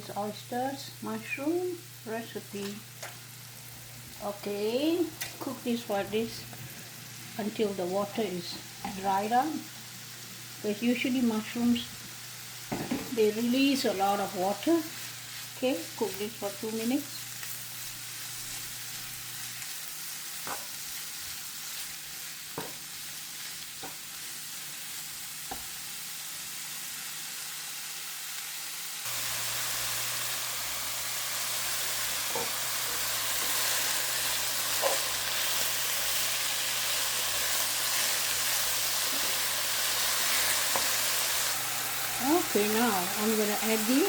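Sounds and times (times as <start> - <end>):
mushrooms sizzling in a pan: 0.0 - 44.0.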